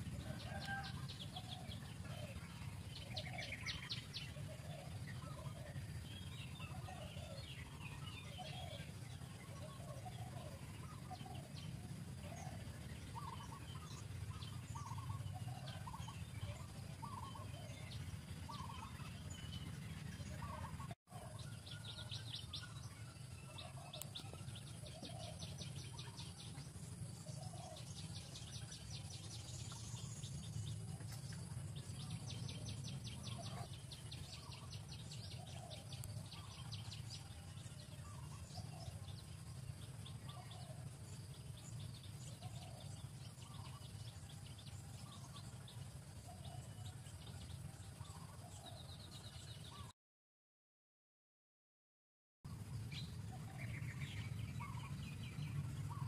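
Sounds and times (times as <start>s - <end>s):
birds calling: 0.0s - 49.9s, 52.5s - 56.0s
steady low hum: 0.0s - 49.9s, 52.5s - 56.0s.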